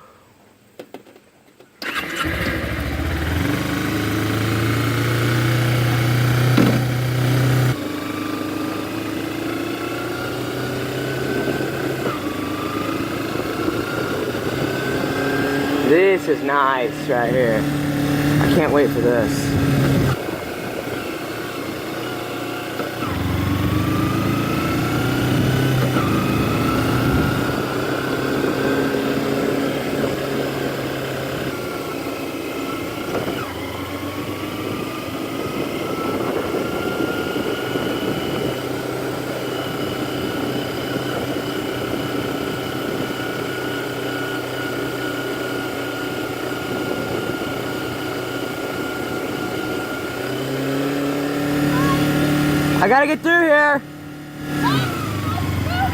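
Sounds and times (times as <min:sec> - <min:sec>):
vehicle engine accelerating: 0:01.8 - 0:55.9.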